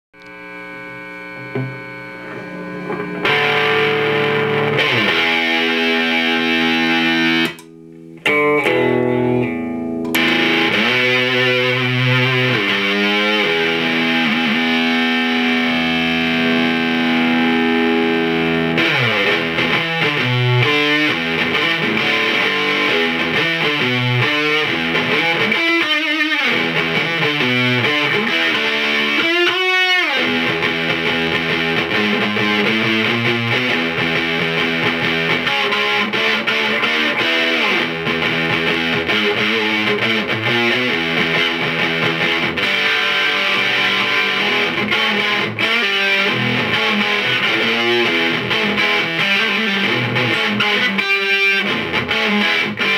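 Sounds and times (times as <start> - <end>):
distorted electric guitar: 0.2 - 52.9.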